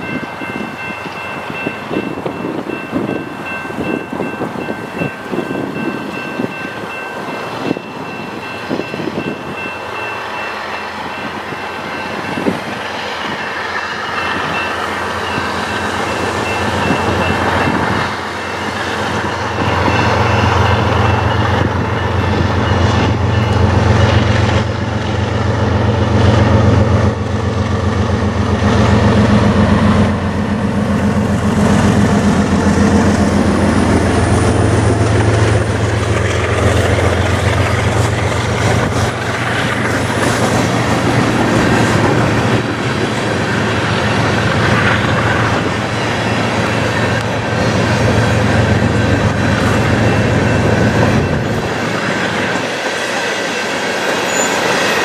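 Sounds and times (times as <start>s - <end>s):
diesel locomotives passing: 0.0s - 55.0s.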